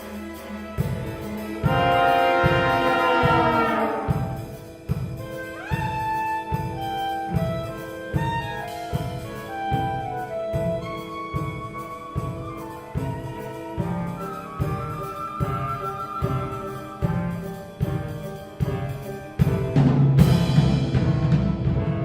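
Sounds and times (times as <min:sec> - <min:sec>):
chamber ensemble music: 0:00.0 - 0:22.0.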